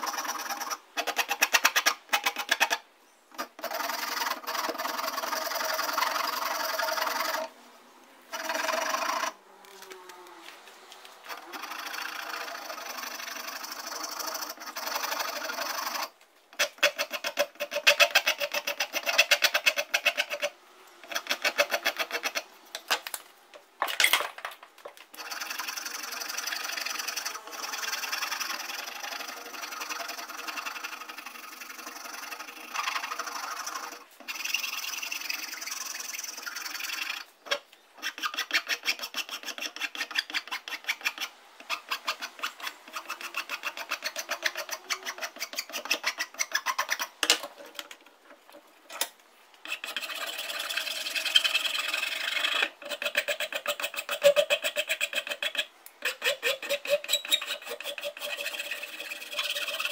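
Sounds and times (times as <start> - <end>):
filing or sanding an axe: 0.0 - 2.8, 3.4 - 7.5, 8.3 - 9.4, 11.2 - 22.5, 25.2 - 47.2, 49.6 - 59.9.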